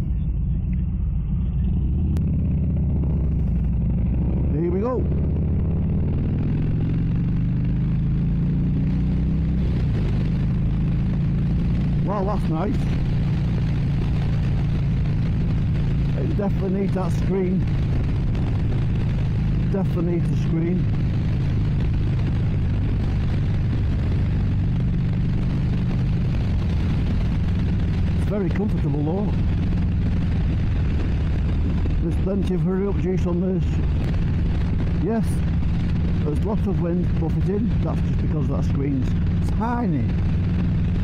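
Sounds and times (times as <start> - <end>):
motorcycle engine accelerating: 0.0 - 41.0
wind noise: 0.0 - 41.0.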